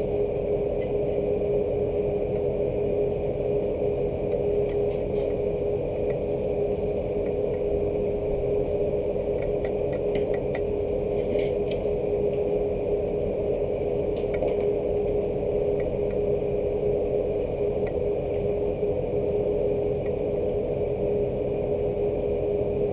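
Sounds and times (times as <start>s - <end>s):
mechanical hum: 0.0s - 22.9s.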